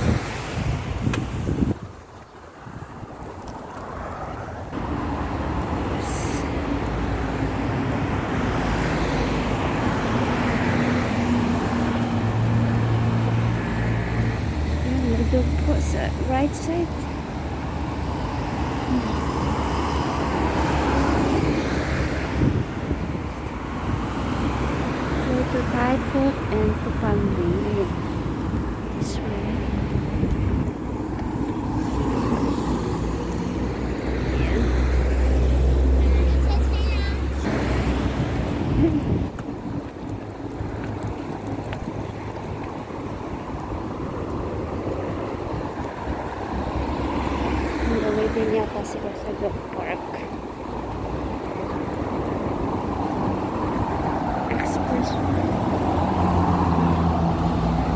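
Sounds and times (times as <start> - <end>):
road traffic rumble: 0.0 - 57.9.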